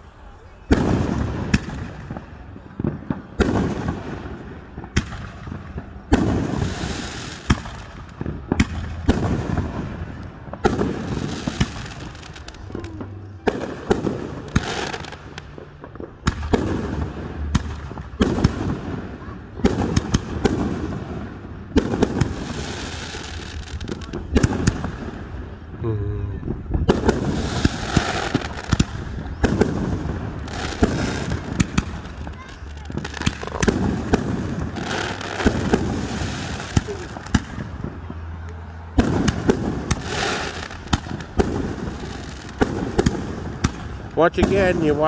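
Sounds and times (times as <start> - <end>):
fireworks bangs with rumbling echo: 0.3 - 25.8, 26.4 - 45.0.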